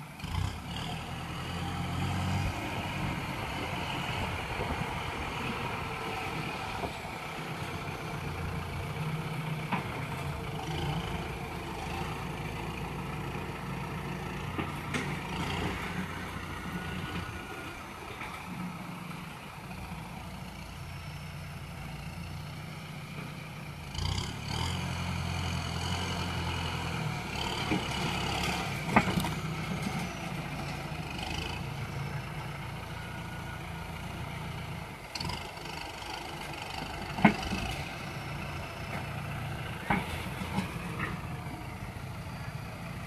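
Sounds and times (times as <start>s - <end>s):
diesel tractor engine running: 0.0s - 43.0s.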